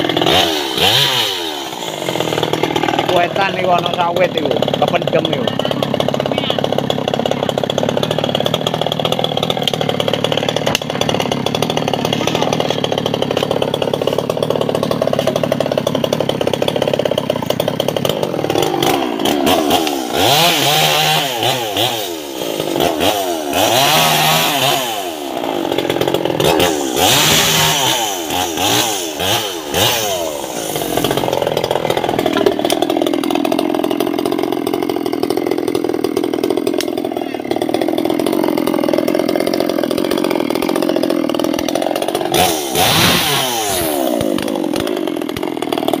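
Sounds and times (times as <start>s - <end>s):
chainsaw idling and revving: 0.0s - 46.0s.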